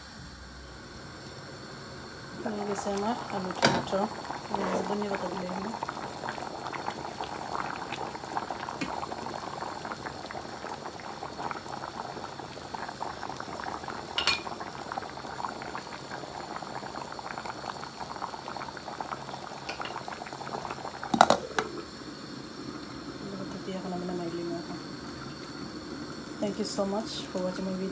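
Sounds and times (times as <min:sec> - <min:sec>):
curry bubbling in a pot: 0:02.4 - 0:27.9.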